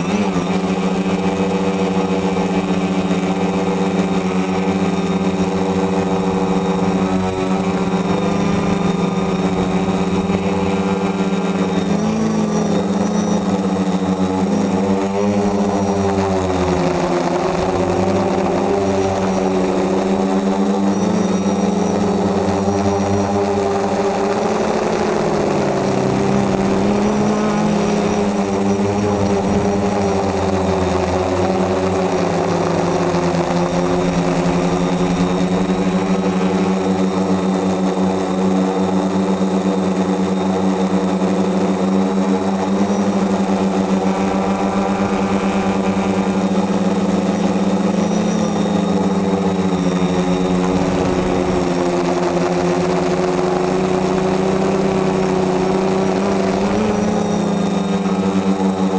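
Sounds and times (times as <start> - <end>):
quadcopter motors whirring: 0.0 - 58.9.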